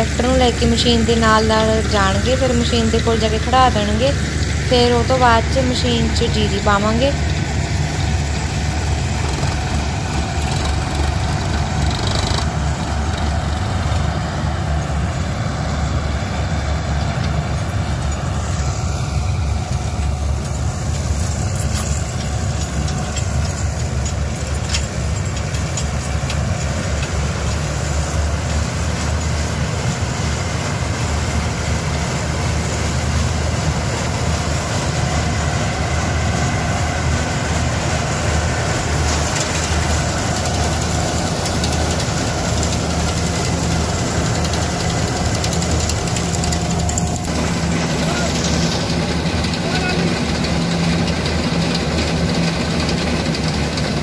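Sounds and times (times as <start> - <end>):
auger unloading grain: 0.0 - 54.0
combine harvester diesel engine: 0.0 - 54.0
tractor engine idling: 0.0 - 54.0.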